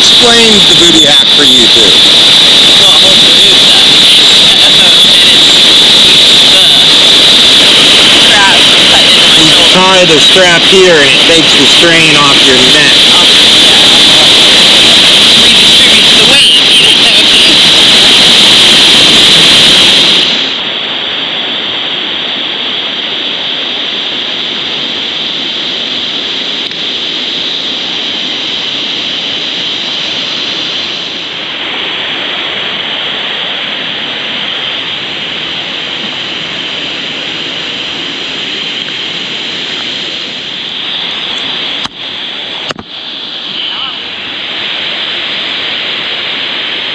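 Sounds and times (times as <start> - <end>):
waterfall roaring: 0.0 - 2.0, 5.8 - 18.4, 20.3 - 46.9.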